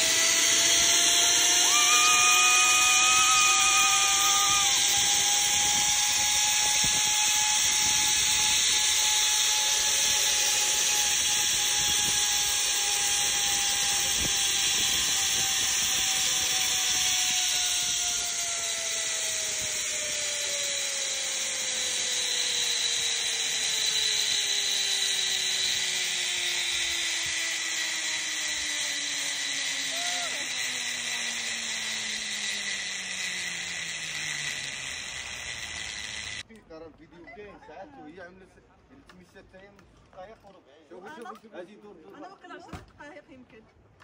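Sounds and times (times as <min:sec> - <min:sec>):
zipline pulleys whirring on cable: 0:00.0 - 0:36.5.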